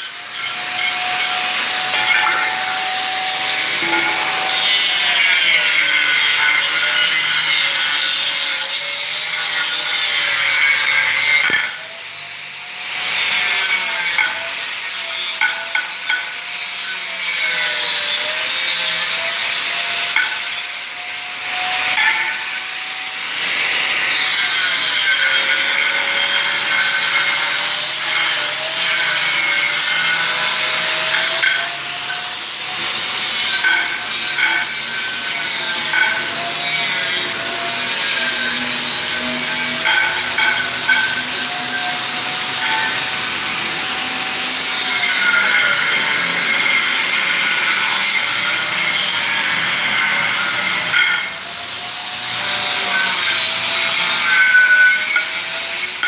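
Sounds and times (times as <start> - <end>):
angle grinder cutting metal: 0.0 - 56.0.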